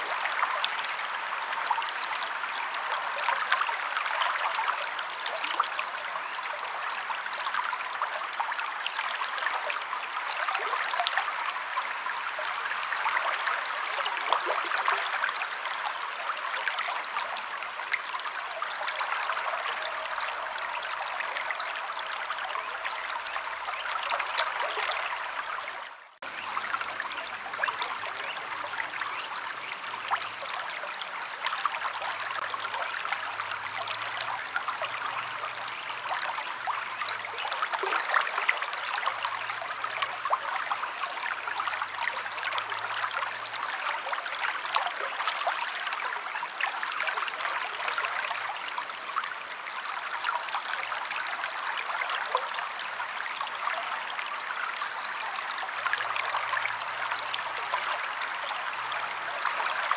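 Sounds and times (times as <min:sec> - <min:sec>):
river water flowing and trickling: 0:00.0 - 0:59.9.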